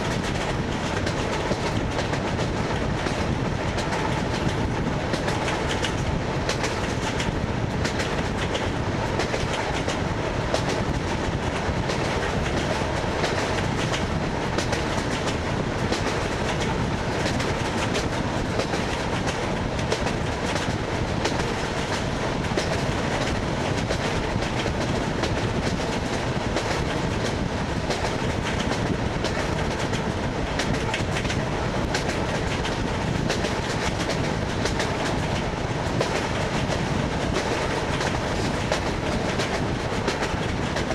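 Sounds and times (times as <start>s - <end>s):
train car rumble: 0.0s - 40.9s
wheels clacking on rail joints: 0.0s - 40.9s.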